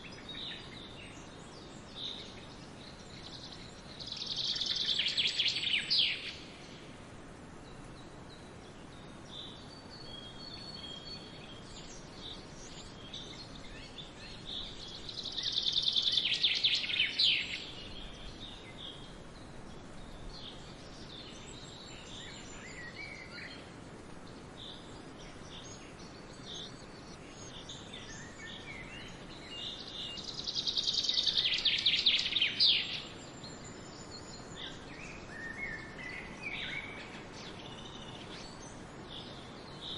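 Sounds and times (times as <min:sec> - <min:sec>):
faint outdoor hiss: 0:00.0 - 0:39.9.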